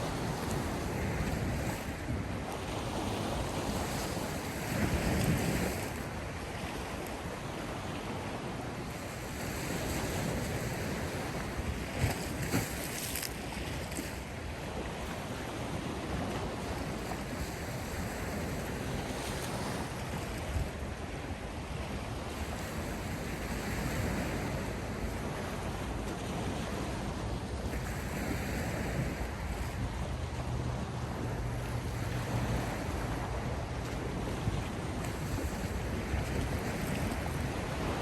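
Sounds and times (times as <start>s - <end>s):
wind on microphone: 0.0s - 8.0s, 8.9s - 38.0s
sea surf washing ashore: 0.0s - 38.0s.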